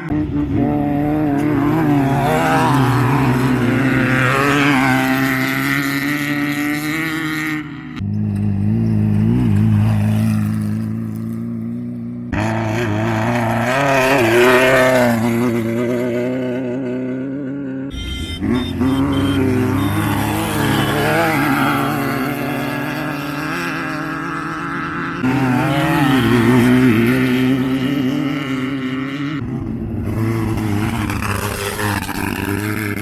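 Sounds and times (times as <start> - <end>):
race vehicle engines revving: 0.0 - 33.0.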